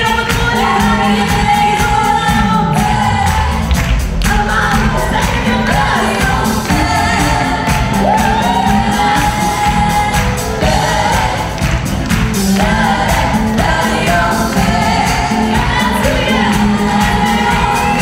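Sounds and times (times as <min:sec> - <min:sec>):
live pop band playing: 0:00.0 - 0:18.0
women singing together: 0:00.0 - 0:18.0.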